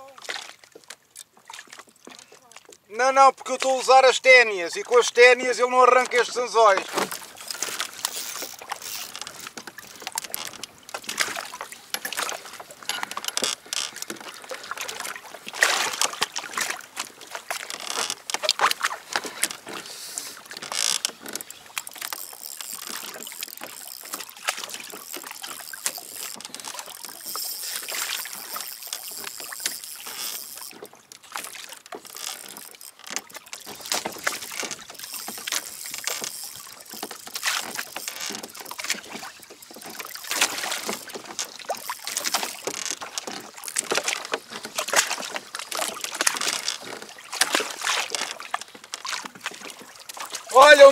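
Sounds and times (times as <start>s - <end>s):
water slapping against kayak hull: 0.0s - 50.9s.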